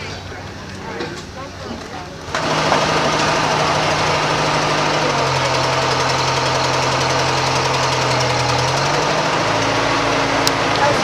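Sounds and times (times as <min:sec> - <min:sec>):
radial piston engines running: 0:00.0 - 0:11.0.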